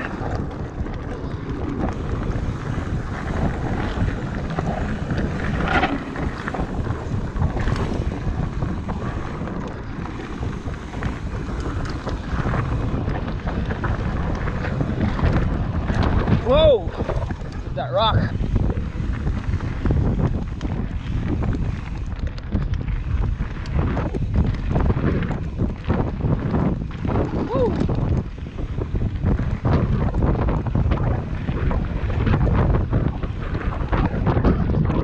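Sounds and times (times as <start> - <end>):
bike clicks and rattles: 0.0 - 35.0
tyre rumble: 0.0 - 35.0
wind buffeting microphone: 0.0 - 35.0.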